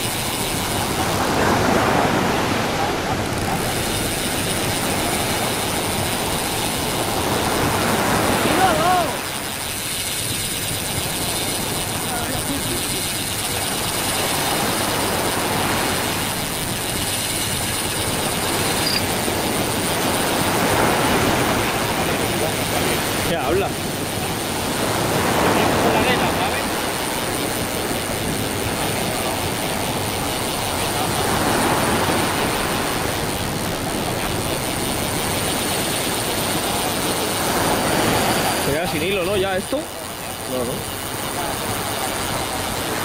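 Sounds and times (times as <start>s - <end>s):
sea surf breaking on shore: 0.0s - 43.0s
wind: 0.0s - 43.0s.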